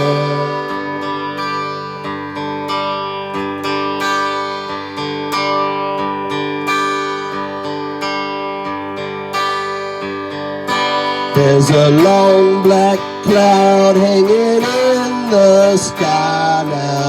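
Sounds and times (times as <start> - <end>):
acoustic guitar picking: 0.0 - 17.0.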